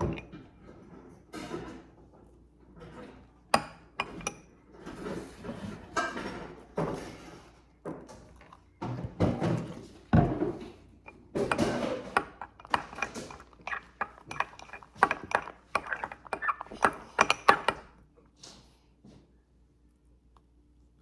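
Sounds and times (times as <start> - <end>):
objects clicking and knocking: 0.0 - 2.0, 2.8 - 18.0.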